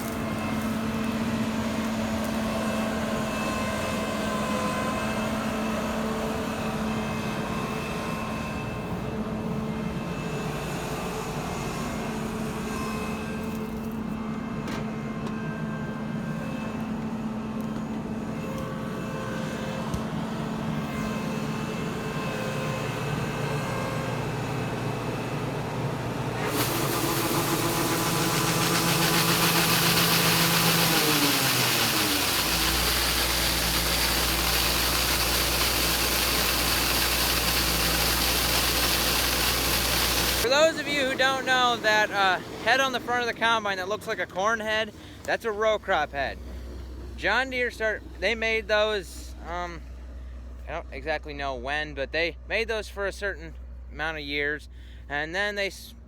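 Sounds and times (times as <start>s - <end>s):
tractor diesel engine running: 0.0s - 10.1s, 13.4s - 51.4s.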